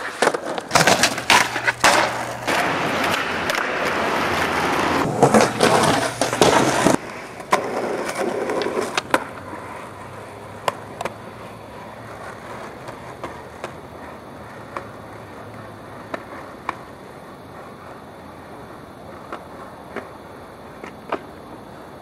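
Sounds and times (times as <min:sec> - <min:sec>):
skateboard clacks: 0:00.0 - 0:22.0
skateboard wheels rolling on pavement: 0:00.0 - 0:22.0.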